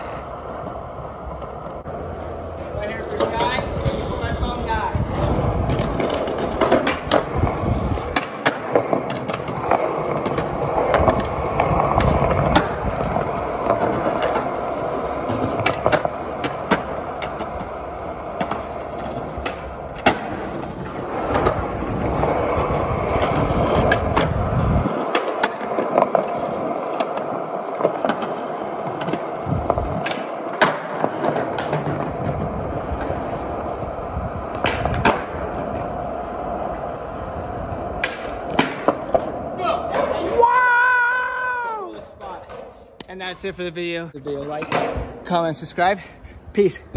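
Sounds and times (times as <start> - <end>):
skateboard clacks: 0.0 - 45.8
skateboard wheels rolling on concrete: 0.0 - 46.9.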